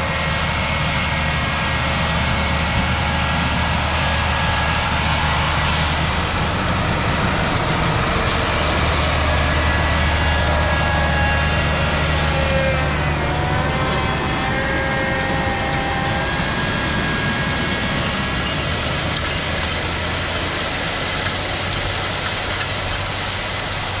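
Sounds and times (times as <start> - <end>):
machine whine: 0.0 - 24.0
tractor engine under load: 0.0 - 24.0.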